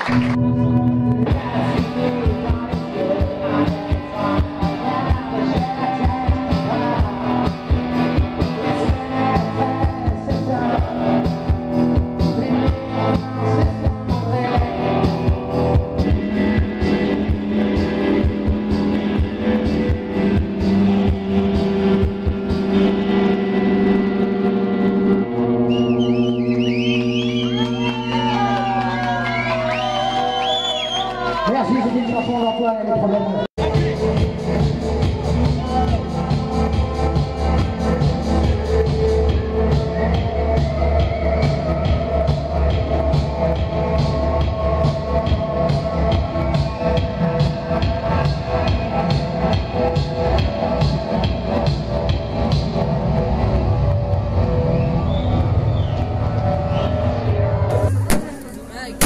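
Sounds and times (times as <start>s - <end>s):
electric guitar: 0.0s - 32.0s, 33.3s - 59.0s
keyboards: 0.0s - 59.0s.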